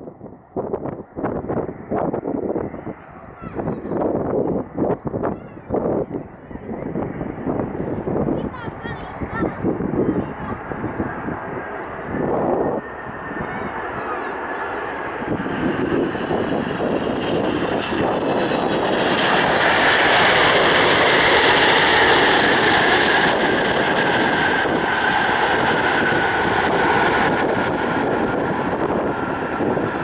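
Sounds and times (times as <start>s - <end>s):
airliner engines passing: 0.0s - 30.0s
high jet whine dropping in pitch: 0.0s - 30.0s.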